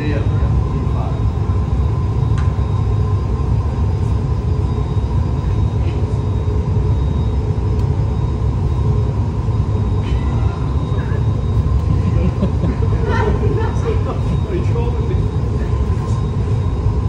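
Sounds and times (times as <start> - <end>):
faint steady whine: 0.0 - 17.0
gas burners and fans roaring: 0.0 - 17.0.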